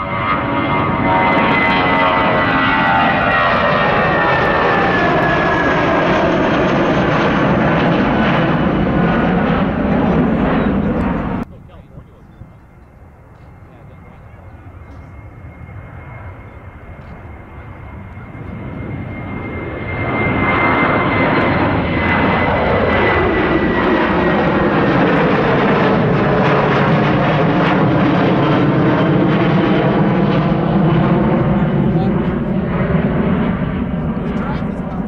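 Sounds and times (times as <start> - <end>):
jet plane passing by: 0.0 - 35.0.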